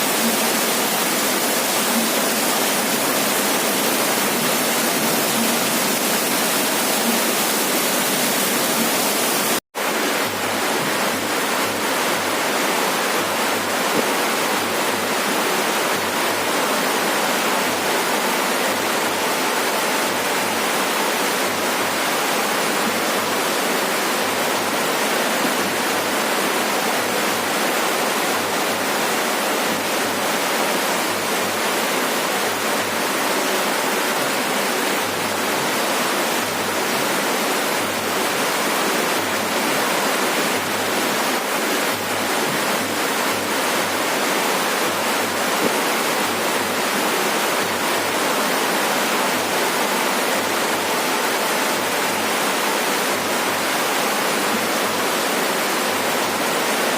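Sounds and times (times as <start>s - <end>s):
heavy rain on a roof: 0.0s - 56.9s.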